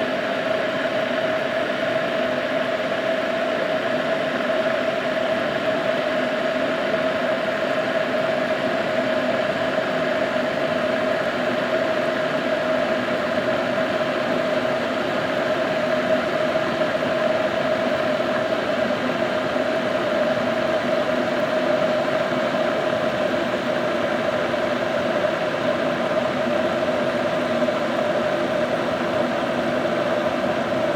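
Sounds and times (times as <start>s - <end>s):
electric kettle boiling: 3.1s - 30.9s.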